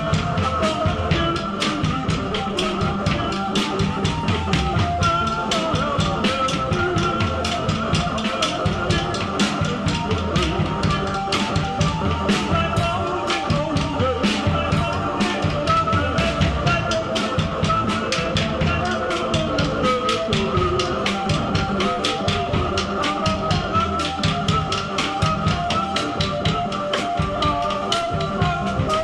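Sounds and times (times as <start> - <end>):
busy drumming: 0.0 - 29.0.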